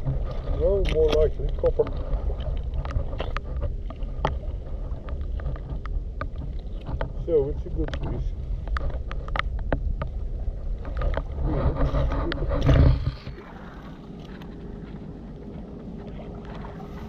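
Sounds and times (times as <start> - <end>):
low rumble on microphone: 0.0 - 17.0.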